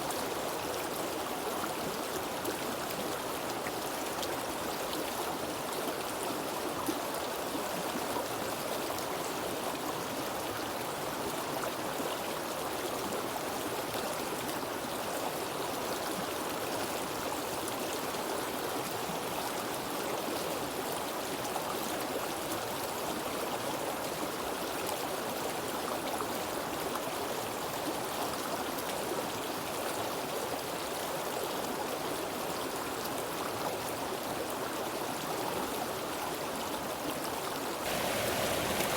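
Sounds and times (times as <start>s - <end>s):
stream water rushing and babbling: 0.0s - 38.9s.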